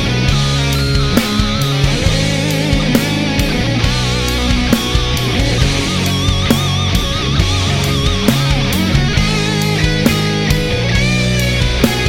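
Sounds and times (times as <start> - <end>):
bass guitar: 0.0 - 12.0
distorted electric guitars: 0.0 - 12.0
drums playing a steady beat: 0.0 - 12.0
wavering lead guitar line: 0.0 - 12.0.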